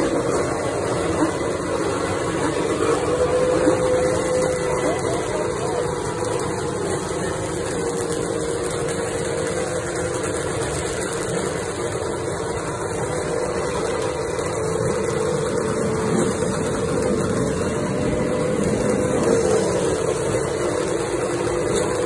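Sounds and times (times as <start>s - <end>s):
two-stroke motorcycle engines idling: 0.0s - 22.0s.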